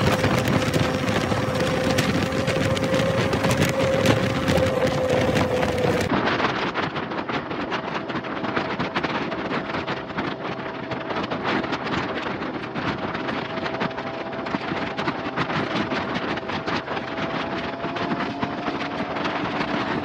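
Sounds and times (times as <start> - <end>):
motorbike engine hum: 0.0 - 20.0
wind buffeting microphone: 0.0 - 20.0.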